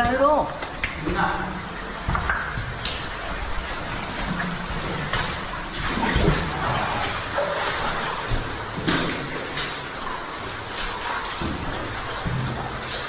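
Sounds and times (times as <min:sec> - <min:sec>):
rushing stream water: 0:00.0 - 0:13.0
sharp splashes or knocks: 0:00.0 - 0:13.0.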